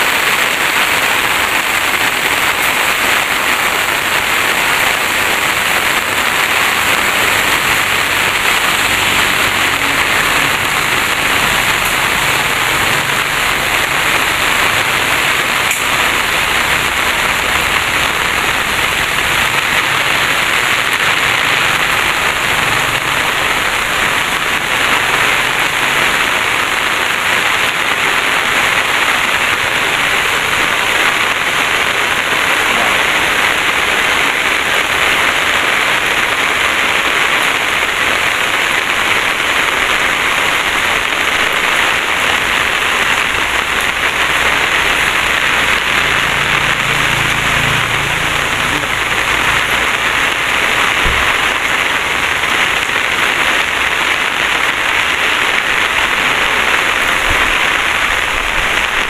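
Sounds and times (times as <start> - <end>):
rain on foliage: 0.0 - 59.0.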